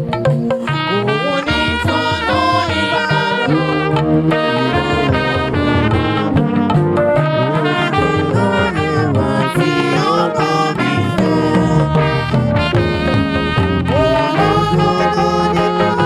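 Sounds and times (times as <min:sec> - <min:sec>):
horn-like melodic lead: 0:00.0 - 0:16.0
rhythmic chords: 0:00.0 - 0:16.0.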